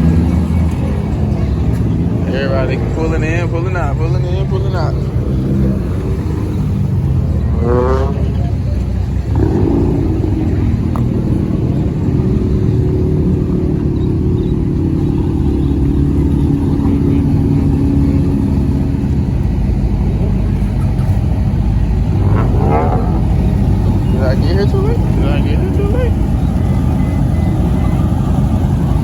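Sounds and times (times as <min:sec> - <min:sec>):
car engines running: 0:00.0 - 0:29.0.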